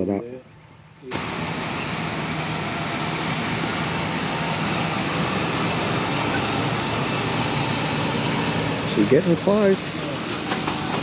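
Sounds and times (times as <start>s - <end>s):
tractor engine humming: 0.0s - 11.0s.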